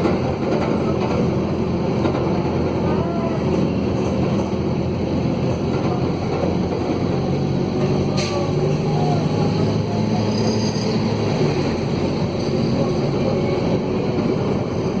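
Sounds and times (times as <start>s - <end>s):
loud rough diesel bus engine: 0.0s - 15.0s.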